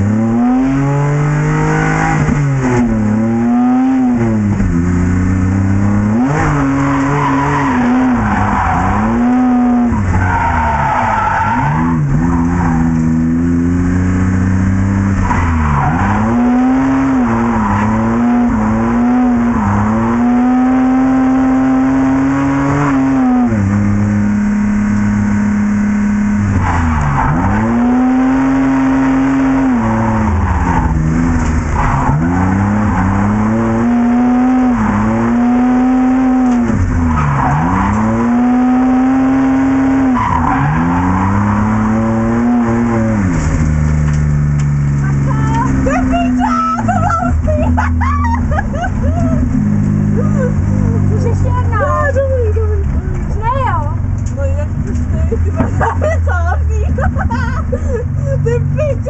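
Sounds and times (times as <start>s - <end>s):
car engine revving hard: 0.0s - 58.9s.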